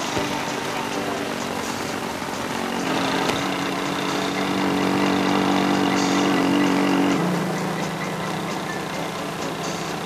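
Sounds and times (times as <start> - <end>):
small motorbike engine running: 0.0 - 10.0.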